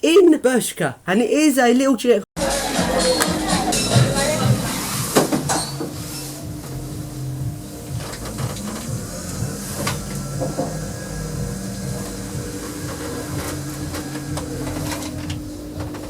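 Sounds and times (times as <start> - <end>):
lift motor humming: 2.4 - 16.0.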